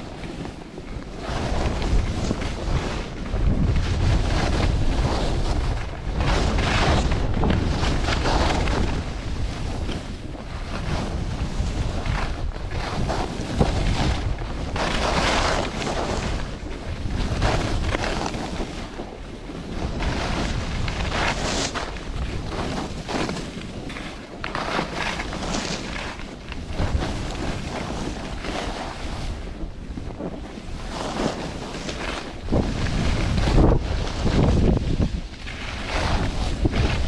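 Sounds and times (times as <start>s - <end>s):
skis scraping on packed snow: 0.0s - 37.0s
wind rushing over microphone: 0.0s - 37.0s.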